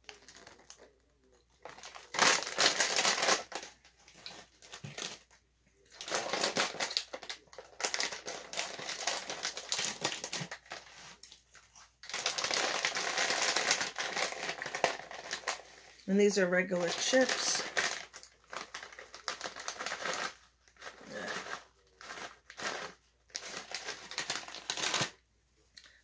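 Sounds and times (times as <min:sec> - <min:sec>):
chip bag crinkling: 0:00.0 - 0:05.3, 0:05.9 - 0:25.2.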